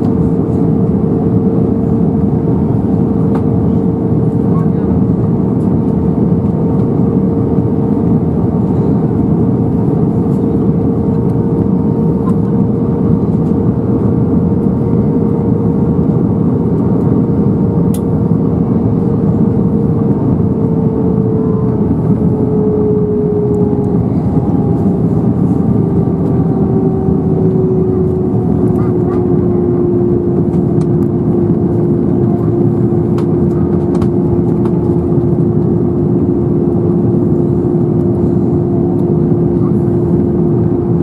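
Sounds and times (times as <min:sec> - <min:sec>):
airflow rush in aircraft cabin: 0:00.0 - 0:41.0
jet engines humming: 0:00.0 - 0:41.0.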